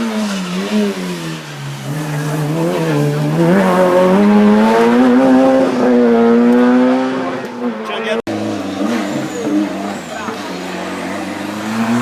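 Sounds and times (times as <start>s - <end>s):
race car engine revving: 0.0s - 12.0s.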